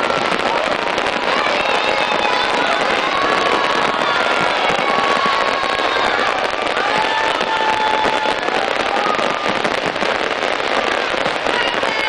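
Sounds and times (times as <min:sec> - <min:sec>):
fireworks crackling and banging: 0:00.0 - 0:12.0
fireworks whistling: 0:00.0 - 0:12.0.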